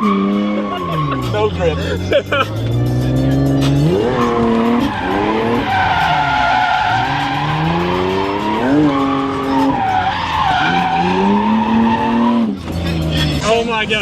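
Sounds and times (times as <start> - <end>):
car engine revving: 0.0 - 14.0
tyres squealing: 0.0 - 14.0.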